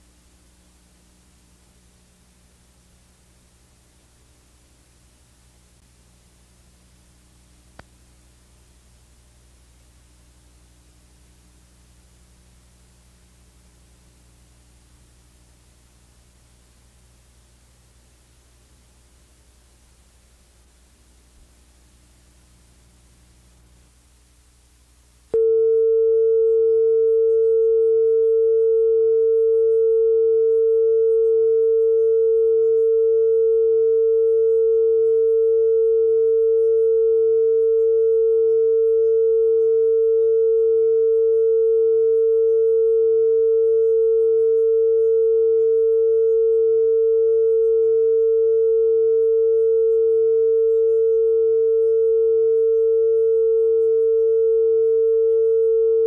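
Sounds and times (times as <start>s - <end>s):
faint tape hiss: 0.0s - 56.0s.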